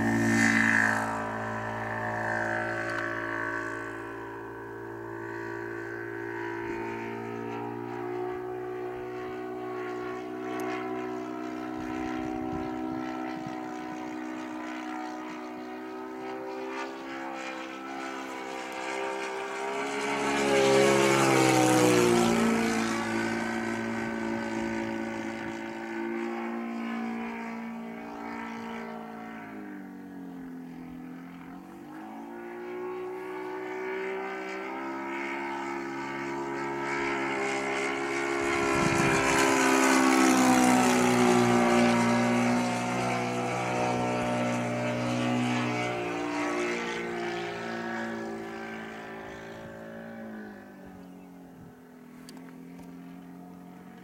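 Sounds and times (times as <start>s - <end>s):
model plane engine drone: 0.0s - 54.0s.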